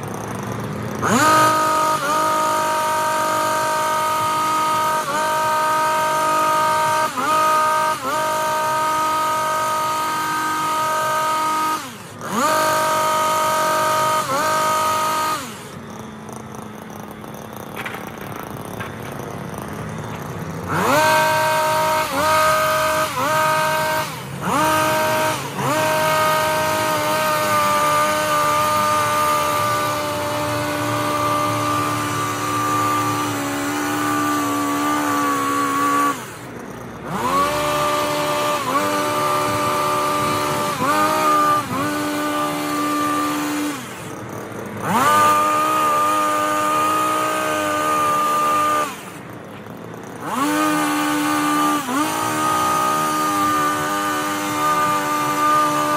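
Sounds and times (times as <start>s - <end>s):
hedge trimmer engine revving: 0.0s - 55.9s.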